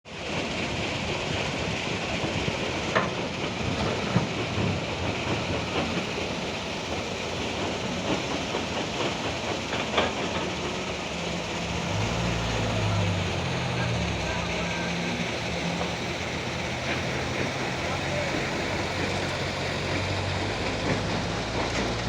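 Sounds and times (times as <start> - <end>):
heavy machinery rumbling hiss: 0.2 - 22.0.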